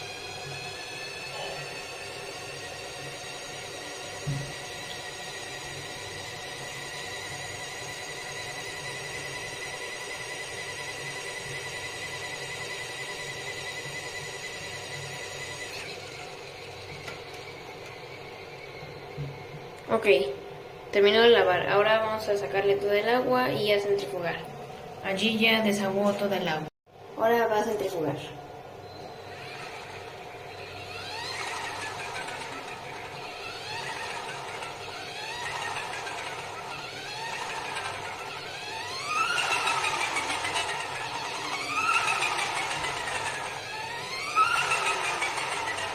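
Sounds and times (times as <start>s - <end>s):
washing machine motor whining: 0.0s - 45.9s.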